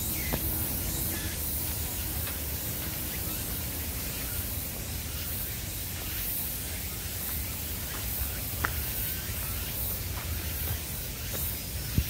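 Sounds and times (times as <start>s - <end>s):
steady hiss: 0.0s - 12.0s
wind rumble on microphone: 0.0s - 12.0s.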